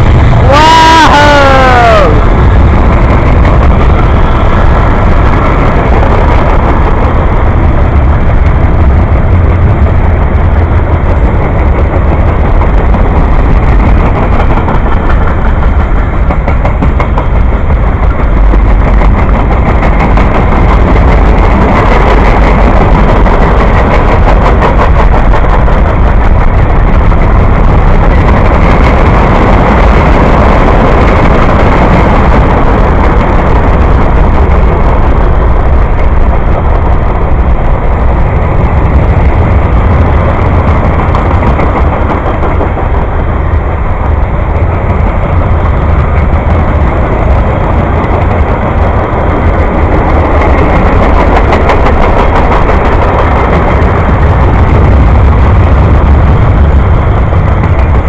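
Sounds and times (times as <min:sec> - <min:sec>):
steel wheels rumbling on rail: 0:00.0 - 0:58.0
wheels clicking over rail joints: 0:02.2 - 0:58.0.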